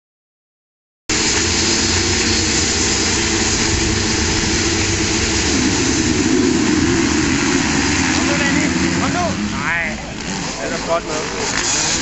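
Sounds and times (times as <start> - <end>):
motocross bikes revving: 1.1 - 12.0.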